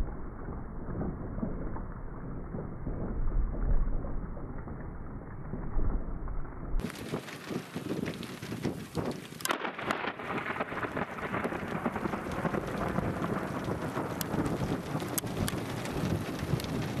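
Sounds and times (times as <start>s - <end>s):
heavy rain: 0.0s - 17.0s
raindrops pattering on microphone: 0.0s - 17.0s
thunder crack and rumbling: 0.0s - 17.0s.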